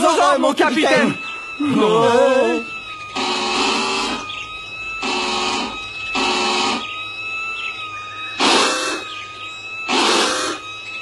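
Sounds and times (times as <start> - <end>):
faint steady high tone: 0.0 - 11.0
harsh alarm buzzer blasts: 0.0 - 11.0.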